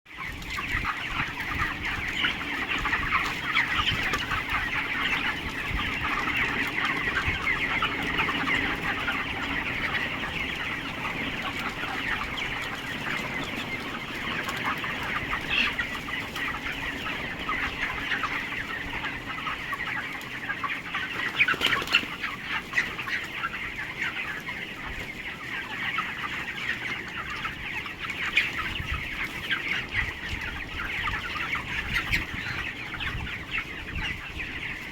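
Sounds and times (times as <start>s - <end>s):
chickens clucking and cheeping: 0.1s - 34.9s.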